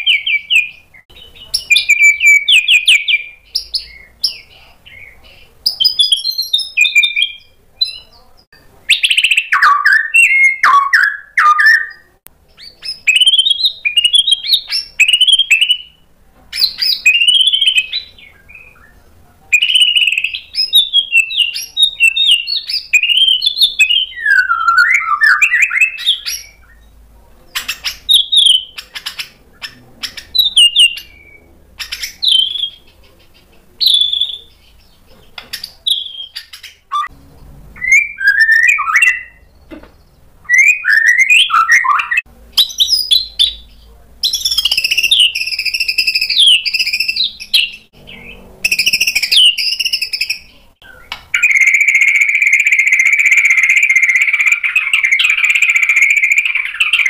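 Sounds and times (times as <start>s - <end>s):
bird singing whistles and chatter: 0.0s - 37.1s, 37.8s - 39.7s, 40.4s - 57.0s.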